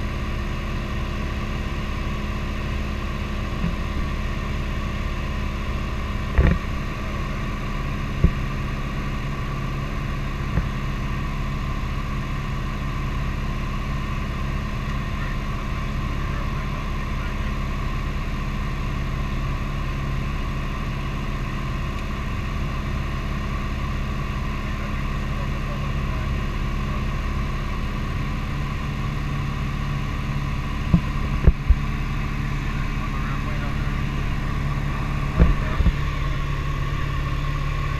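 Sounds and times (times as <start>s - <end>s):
propeller airplane engine droning: 0.0s - 37.9s.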